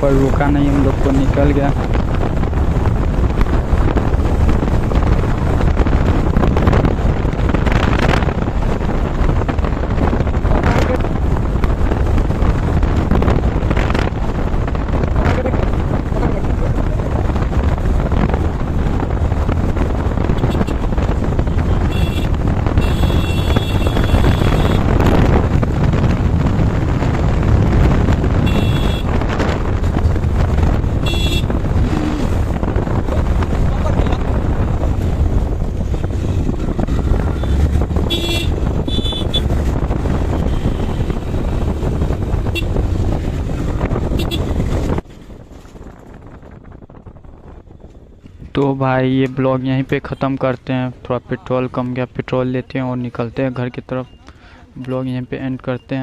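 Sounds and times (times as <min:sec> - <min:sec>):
wind rushing over microphone: 0:00.0 - 0:54.1
motorcycle engine and road rumble: 0:00.0 - 0:56.0.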